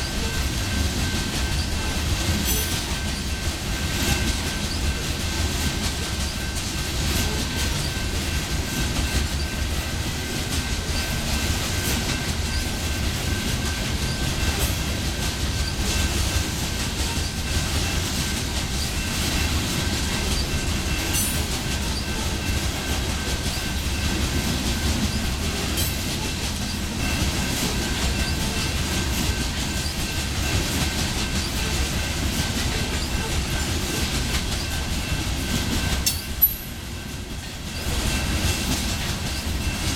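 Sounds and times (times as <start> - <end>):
train cars rumbling: 0.0 - 39.9
wheels clacking over rail joints: 0.0 - 39.9.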